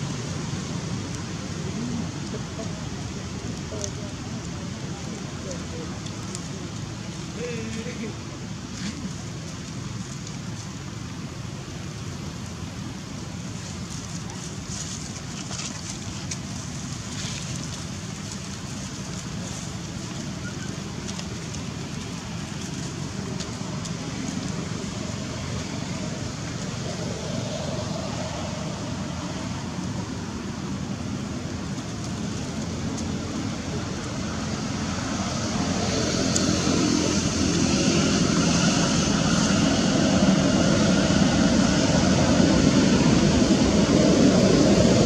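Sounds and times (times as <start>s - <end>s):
low rumbling background noise: 0.0s - 45.0s.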